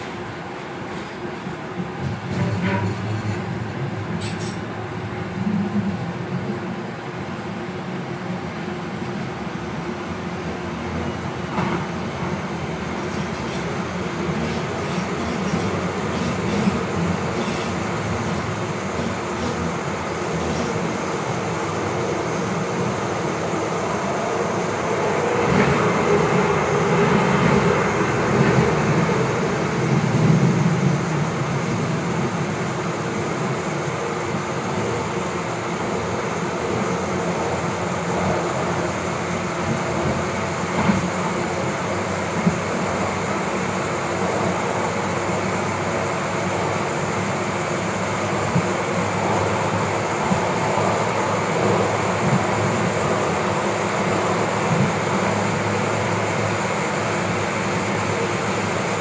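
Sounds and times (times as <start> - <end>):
light rail wheel and motor noise: 0.0 - 59.0.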